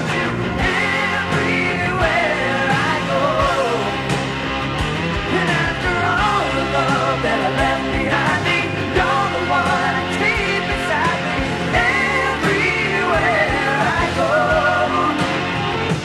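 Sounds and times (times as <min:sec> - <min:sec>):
song with singing over a beat: 0:00.0 - 0:16.0.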